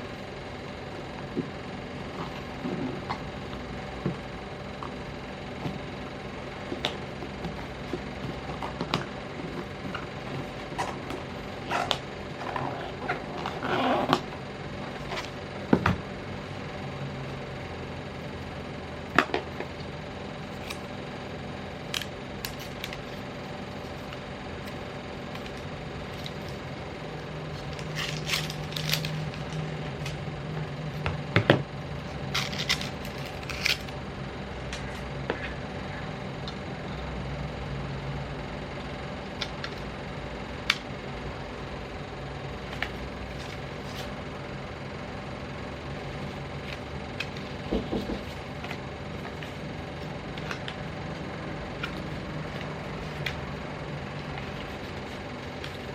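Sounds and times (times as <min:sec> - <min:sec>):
low steady hum: 0:00.0 - 0:55.9.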